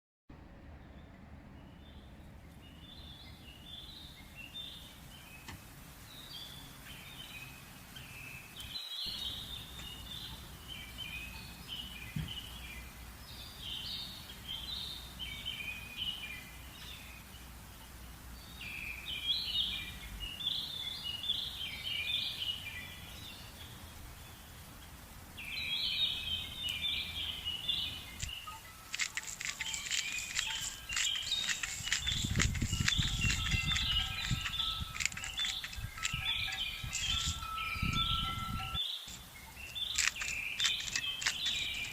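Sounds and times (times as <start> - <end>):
low outdoor background hum: 0.3 - 41.9
wild birds singing: 0.6 - 41.9.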